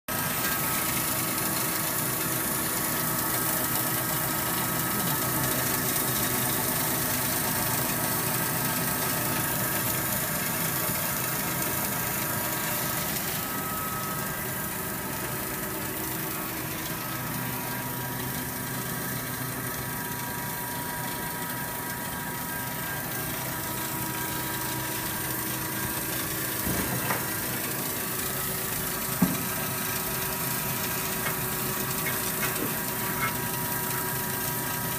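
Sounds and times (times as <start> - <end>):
laser cutting machine hissing: 0.1 - 34.9
machine humming tones: 0.1 - 34.9.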